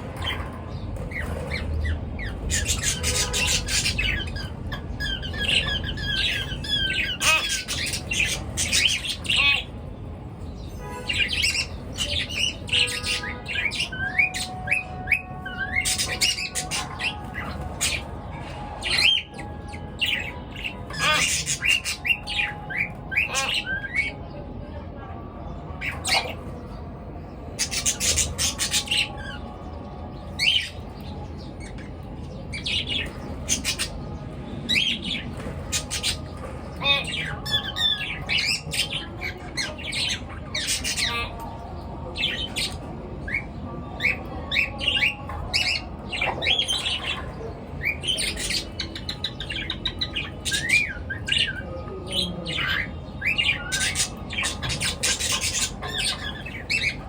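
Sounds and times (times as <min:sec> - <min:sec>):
birds chirping and squawking: 0:00.0 - 0:57.0.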